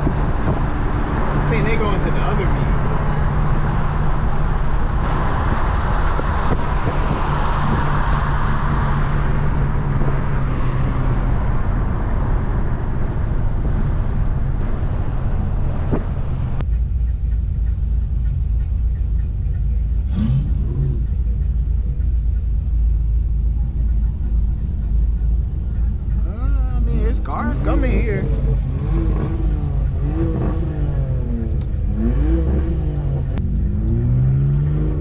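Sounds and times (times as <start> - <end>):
car engine droning: 0.0 - 35.0
road noise hiss: 0.0 - 35.0.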